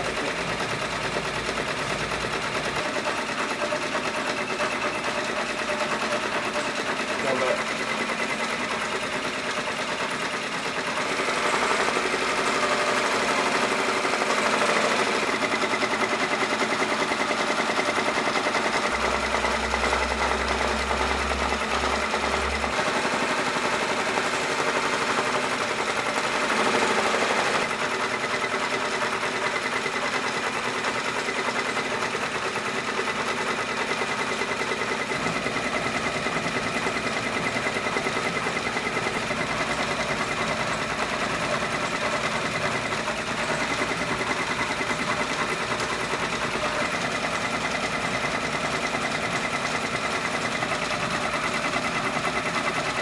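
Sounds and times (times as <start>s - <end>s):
embroidery machine stitching: 0.0s - 53.0s.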